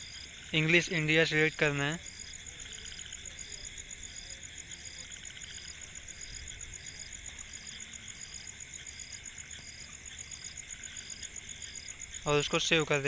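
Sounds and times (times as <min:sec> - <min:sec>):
high-pitched insect trill: 0:00.0 - 0:13.0
lower insect chirp: 0:00.0 - 0:13.0.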